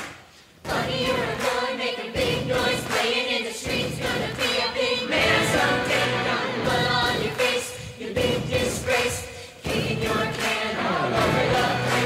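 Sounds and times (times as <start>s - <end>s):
music: 0.1s - 12.0s
choir singing: 0.7s - 12.0s.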